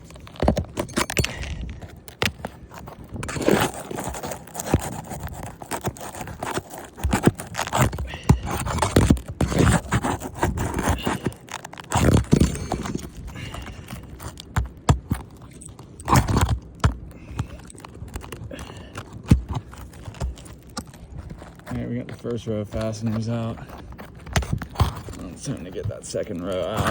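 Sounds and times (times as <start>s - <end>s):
scraping and cracking on shingle: 0.0s - 26.9s.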